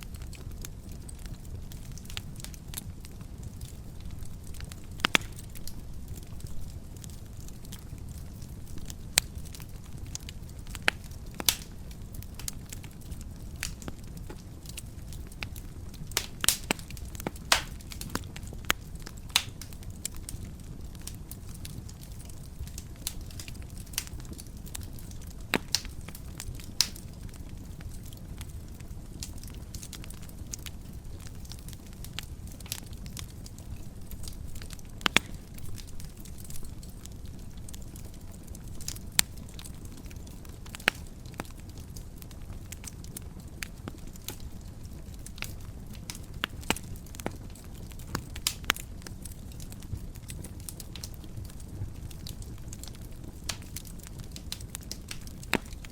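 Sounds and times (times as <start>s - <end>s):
fire crackling and popping: 0.0s - 55.9s
fire rumbling: 0.0s - 55.9s.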